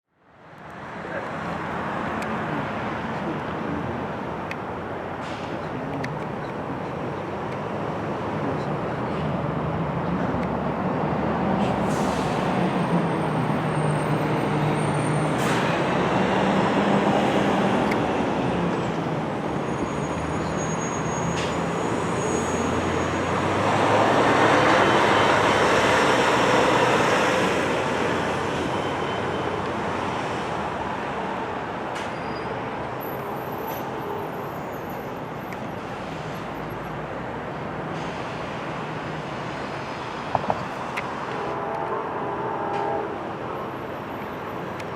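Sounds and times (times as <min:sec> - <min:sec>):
tyre noise from passing vehicles: 0:00.4 - 0:44.9.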